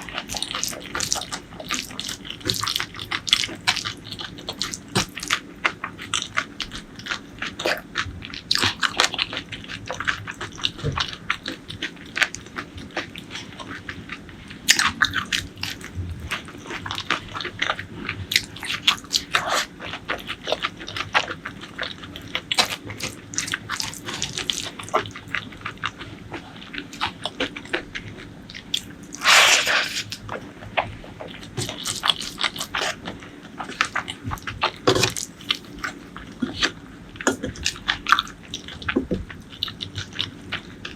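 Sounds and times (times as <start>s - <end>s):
chewing and biting food: 0.0s - 40.9s.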